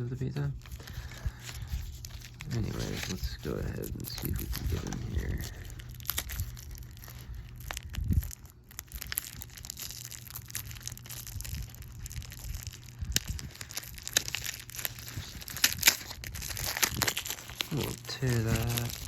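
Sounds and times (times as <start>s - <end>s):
plastic packaging crinkling: 0.2s - 19.0s.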